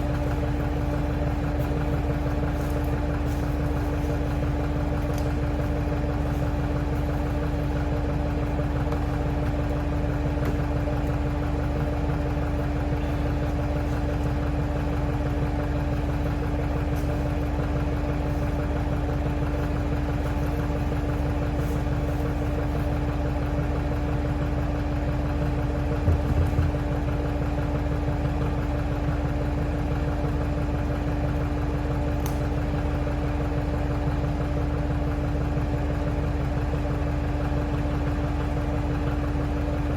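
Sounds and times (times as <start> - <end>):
heavy equipment engine running: 0.0 - 39.9.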